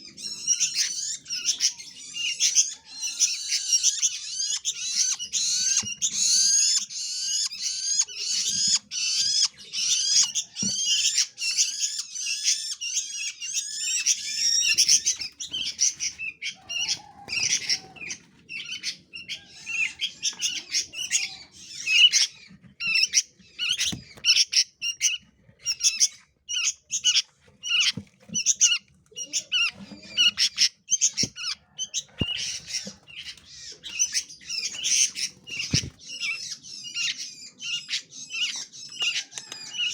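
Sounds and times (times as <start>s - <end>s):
small songbirds calling rapidly: 0.0s - 39.9s.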